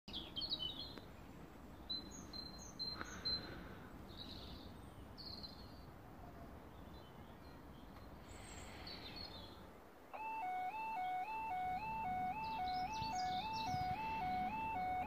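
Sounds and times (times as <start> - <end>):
small birds chirping: 0.1 - 6.0, 6.6 - 15.0
faint background noise: 0.1 - 15.0.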